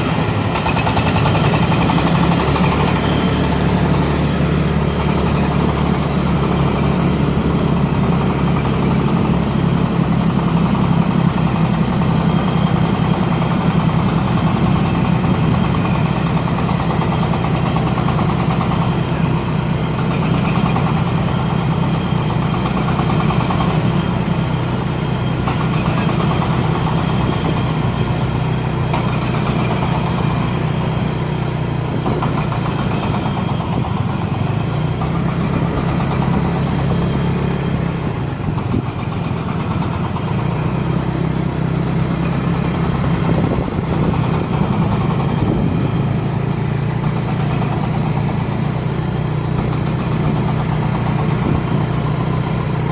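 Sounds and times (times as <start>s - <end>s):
engine running steadily: 0.0s - 52.9s.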